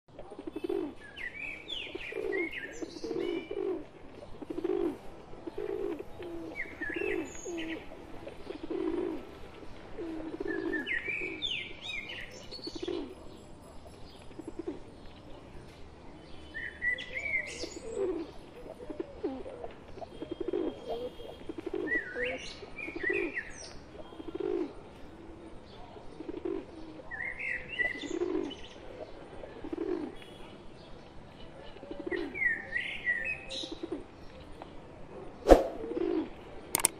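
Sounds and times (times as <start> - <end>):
pigeons cooing: 0.2 - 13.4, 16.9 - 30.3, 31.8 - 34.1, 35.5 - 36.9.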